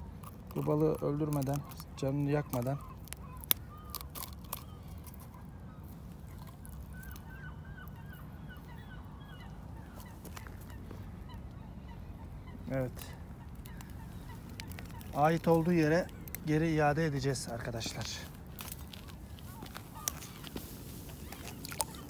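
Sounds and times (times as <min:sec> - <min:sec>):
birds calling: 0:00.0 - 0:22.0
low background rumble: 0:00.0 - 0:22.0.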